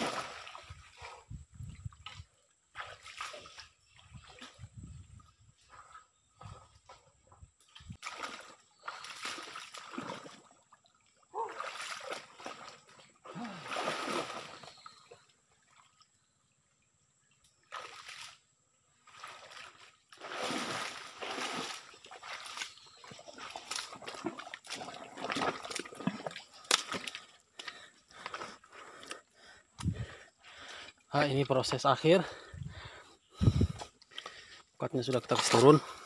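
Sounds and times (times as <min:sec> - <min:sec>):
mud and water squelching and splashing: 0:00.0 - 0:16.1, 0:17.6 - 0:36.0.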